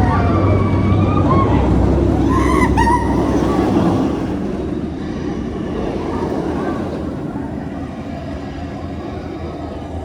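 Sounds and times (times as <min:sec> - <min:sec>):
roller coaster rumbling on track: 0:00.0 - 0:10.0.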